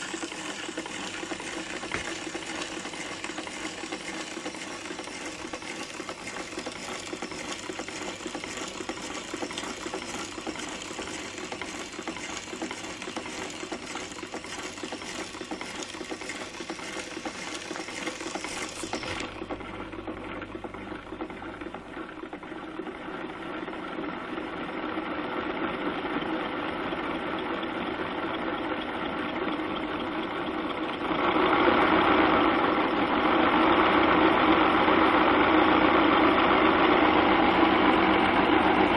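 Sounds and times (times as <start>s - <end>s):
model engine mechanical running: 0.0s - 38.9s.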